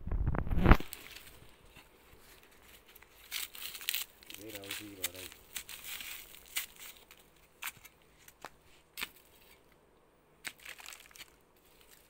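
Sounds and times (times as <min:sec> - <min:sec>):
roots breaking: 0:00.3 - 0:01.4, 0:02.4 - 0:09.6, 0:10.4 - 0:12.0
dry leaves being handled: 0:00.8 - 0:09.7, 0:10.4 - 0:12.0.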